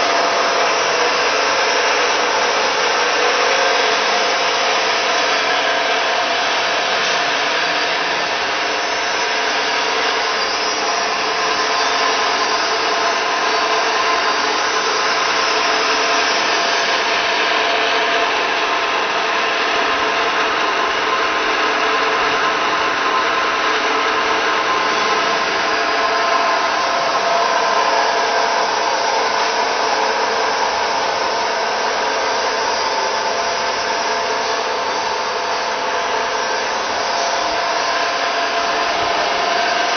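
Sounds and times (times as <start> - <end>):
mixer motor whining: 0.0 - 39.9.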